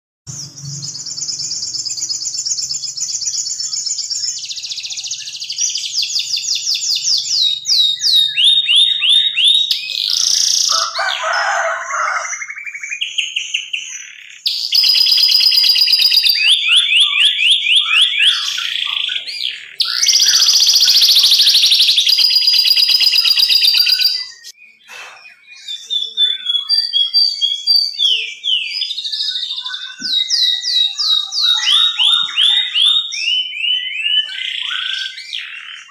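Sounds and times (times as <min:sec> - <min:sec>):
canary singing trills: 0:00.3 - 0:35.9.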